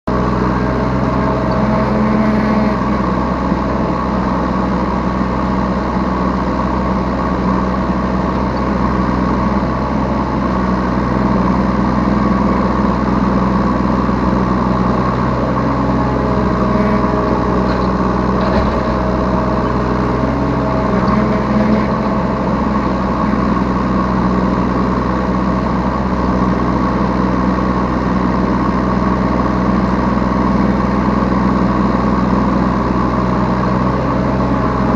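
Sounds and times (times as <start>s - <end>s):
diesel excavator engine running: 0.0s - 34.9s.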